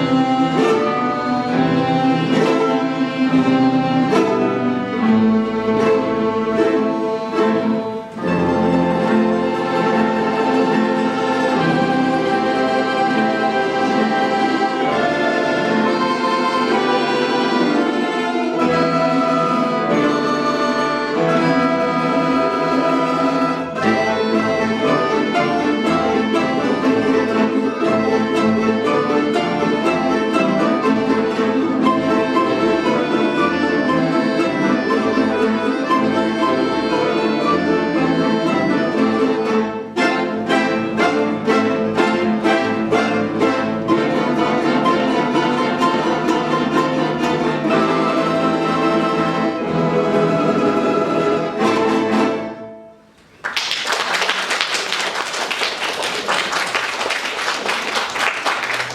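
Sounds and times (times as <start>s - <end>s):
folk orchestra playing a dance: 0.0s - 58.9s.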